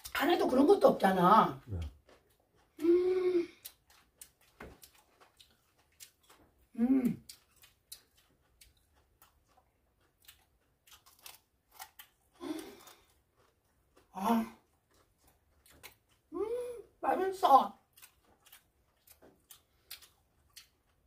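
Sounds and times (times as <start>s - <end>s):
crunching root being chewed: 1.5s - 2.8s, 3.4s - 16.4s, 17.7s - 21.0s.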